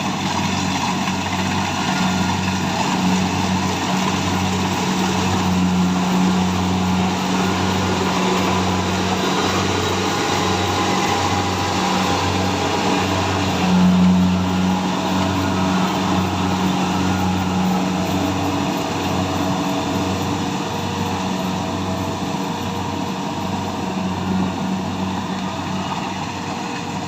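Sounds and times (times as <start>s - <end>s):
combine harvester running: 0.0s - 27.0s.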